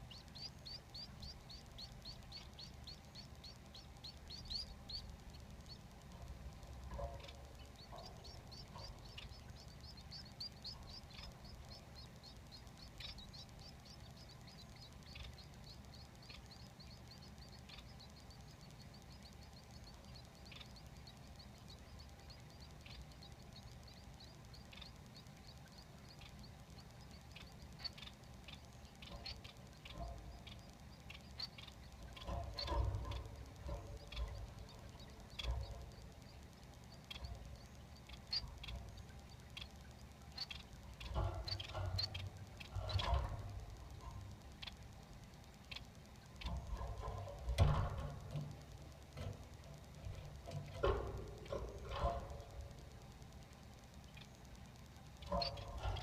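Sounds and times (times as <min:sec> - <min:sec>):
bumps and rustling in nest: 0:00.0 - 0:56.0
chicks begging chirps: 0:00.0 - 0:56.0
low hum: 0:00.0 - 0:56.0.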